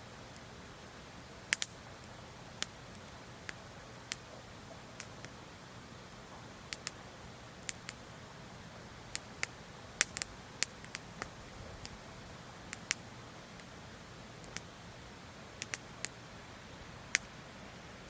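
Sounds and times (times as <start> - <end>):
faint hiss: 0.0 - 18.0
wood fire crackling: 0.2 - 18.0.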